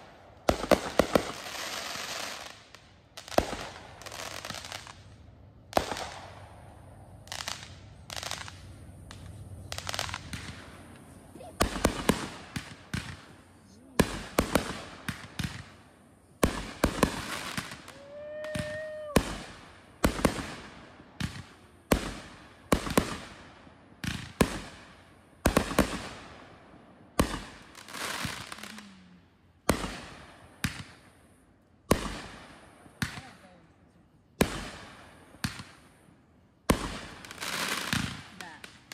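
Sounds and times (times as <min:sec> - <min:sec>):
fireworks sharp bangs: 0:00.0 - 0:29.0, 0:29.6 - 0:33.6, 0:34.3 - 0:38.9.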